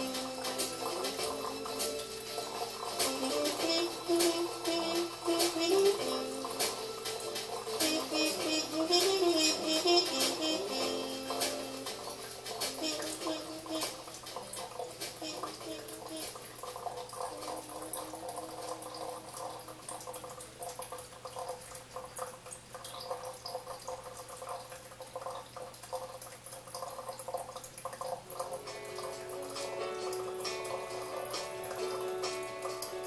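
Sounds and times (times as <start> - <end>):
coffee dripping: 0.0 - 33.0
water pouring from kettle: 0.0 - 33.0.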